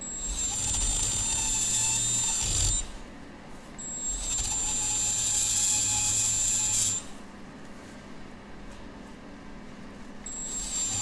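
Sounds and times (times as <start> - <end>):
heat gun fan hiss and whine: 0.0 - 11.0.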